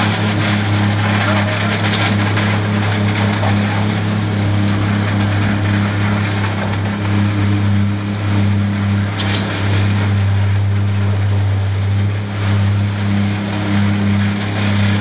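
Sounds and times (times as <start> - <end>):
machinery engine drone: 0.0 - 15.0.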